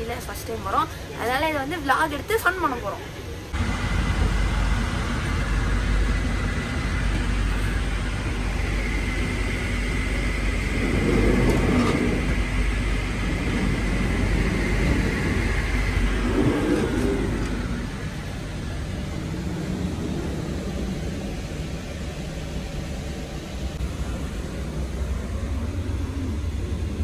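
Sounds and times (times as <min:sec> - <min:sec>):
faint high whine: 0:00.0 - 0:27.0
moving train rumble: 0:00.0 - 0:27.0.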